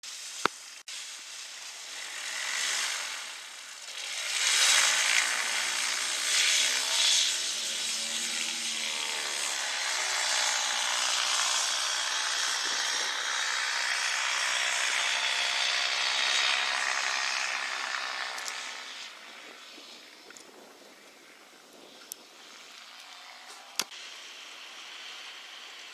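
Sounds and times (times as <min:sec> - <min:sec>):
propeller aircraft engine drone: 0:00.9 - 0:25.9.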